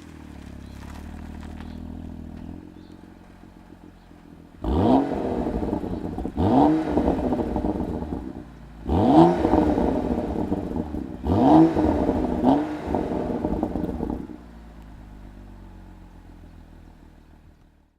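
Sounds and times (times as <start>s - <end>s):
car engine revving: 0.0s - 16.5s
car engine idling: 0.0s - 17.9s
exhaust crackling: 0.0s - 17.9s.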